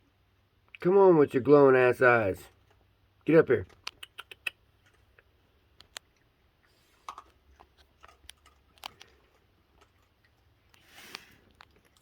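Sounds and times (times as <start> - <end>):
raccoons crunching food: 2.3 - 12.0.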